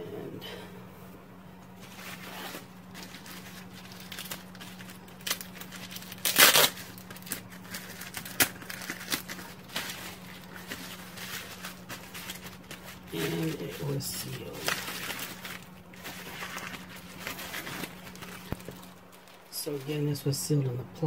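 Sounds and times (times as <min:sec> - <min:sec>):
bubble wrap crinkling: 0:01.7 - 0:20.3.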